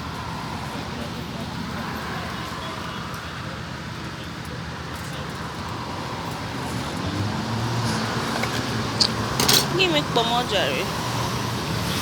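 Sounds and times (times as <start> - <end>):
passing vehicles hissing: 0.0 - 12.0.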